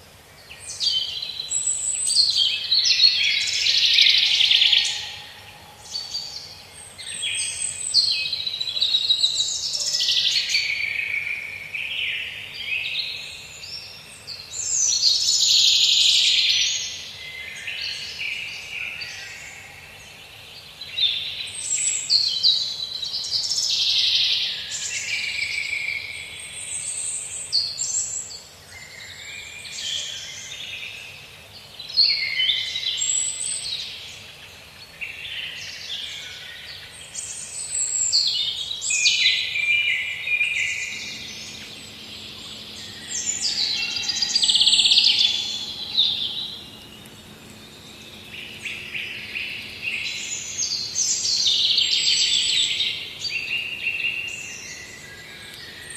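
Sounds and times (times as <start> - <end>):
birds singing: 0.0 - 55.9.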